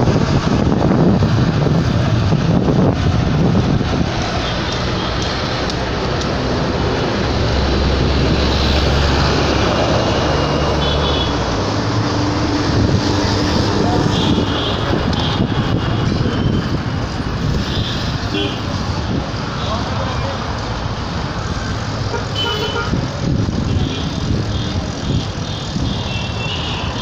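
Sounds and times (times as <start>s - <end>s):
heavy low engine rumble: 0.0s - 26.0s
road noise: 0.0s - 27.0s
vehicle engines: 0.0s - 27.0s.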